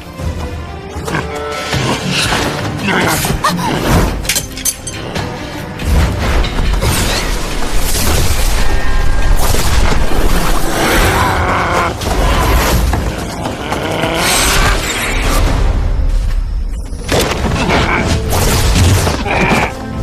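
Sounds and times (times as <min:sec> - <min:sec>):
dramatic music: 0:00.0 - 0:20.0.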